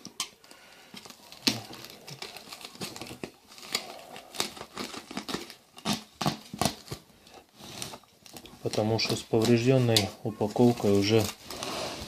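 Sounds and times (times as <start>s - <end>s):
packaging crinkling and crackling: 0.0s - 12.0s.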